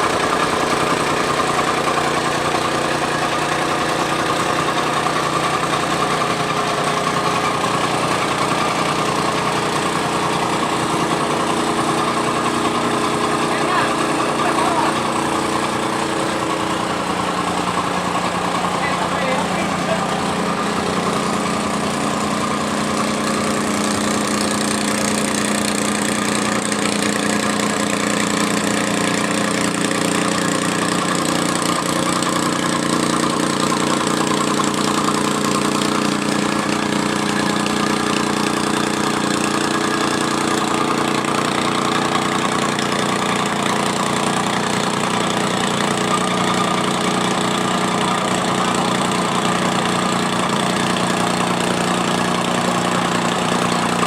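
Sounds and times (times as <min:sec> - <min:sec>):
compactor engine droning: 0:00.0 - 0:54.0.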